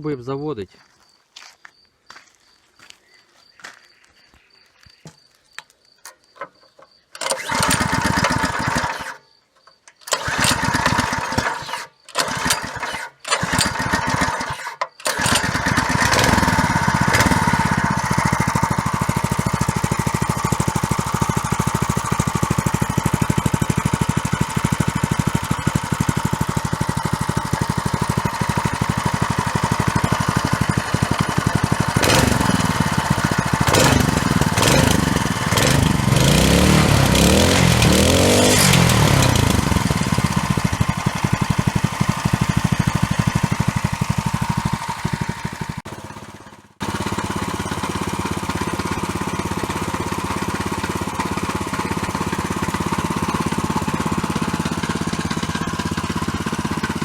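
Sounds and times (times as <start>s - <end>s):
petrol engine revving: 7.2s - 9.2s, 10.1s - 57.0s.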